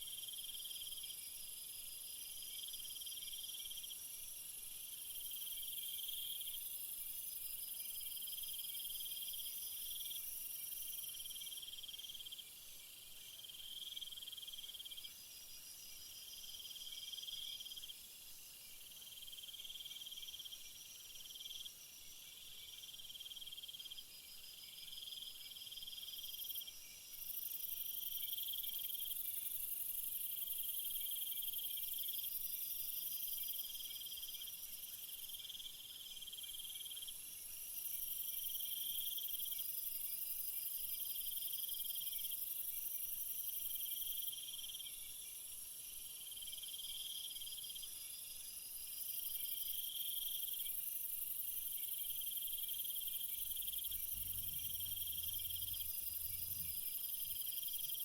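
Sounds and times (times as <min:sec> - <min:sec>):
high steady insect trill: 0:00.0 - 0:58.0
low pulsing cricket chirp: 0:00.0 - 0:58.0.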